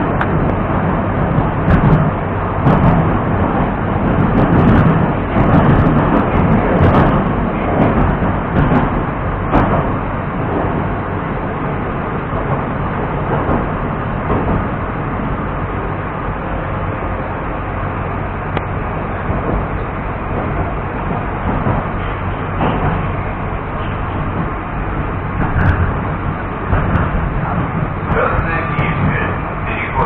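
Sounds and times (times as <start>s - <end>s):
train wheels rumbling on rails: 0.0s - 30.0s
clicks and knocks from track: 0.1s - 17.4s, 18.0s - 30.0s.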